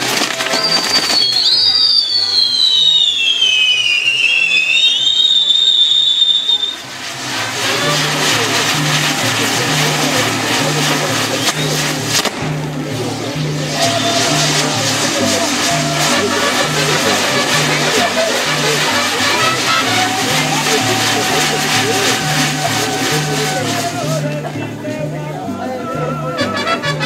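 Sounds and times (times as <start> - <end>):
whistling firework: 0.0 - 24.2
fireworks hissing and crackling: 0.0 - 24.9.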